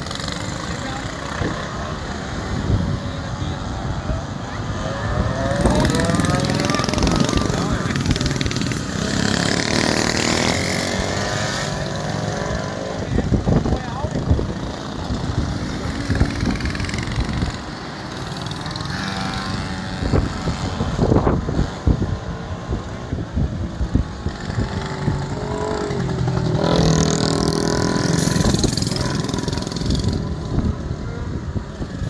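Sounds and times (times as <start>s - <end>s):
minibike engines revving: 0.0s - 32.0s.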